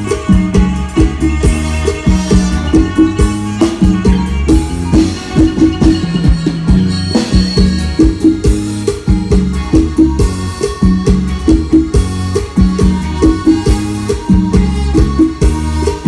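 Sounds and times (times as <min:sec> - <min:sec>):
amplified band music with drums: 0:00.0 - 0:16.0.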